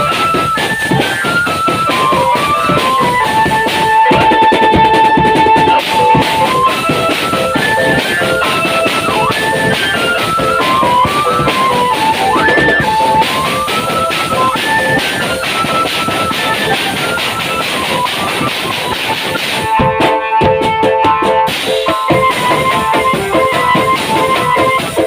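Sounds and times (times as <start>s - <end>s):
band melody: 0.0s - 25.0s
steady drumming: 0.0s - 25.0s.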